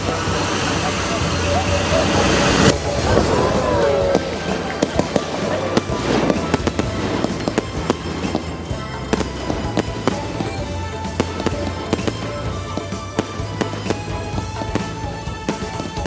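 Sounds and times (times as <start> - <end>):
background music: 0.0 - 16.0
fireworks spraying with crackling pops: 0.0 - 16.0.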